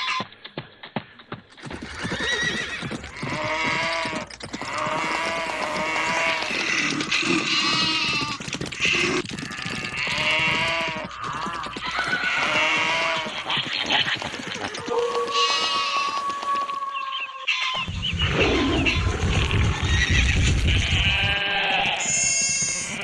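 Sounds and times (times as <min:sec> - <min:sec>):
farm animals calling: 0:01.7 - 0:23.0.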